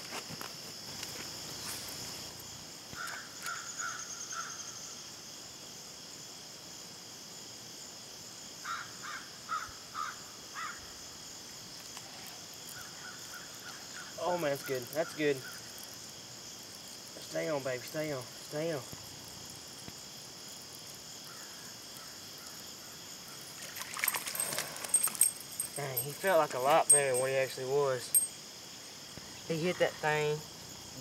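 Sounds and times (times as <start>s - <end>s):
high insect chorus: 0.0s - 31.0s.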